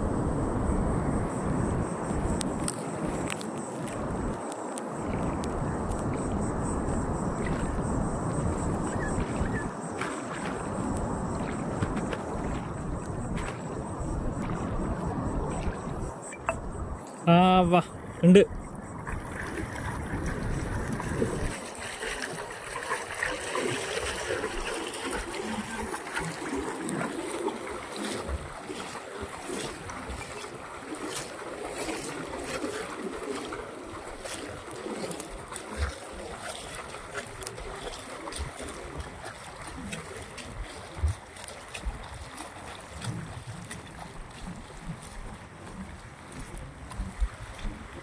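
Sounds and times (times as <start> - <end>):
steady water wash: 0.0 - 48.0
water splashing around legs: 2.0 - 16.7, 17.4 - 48.0.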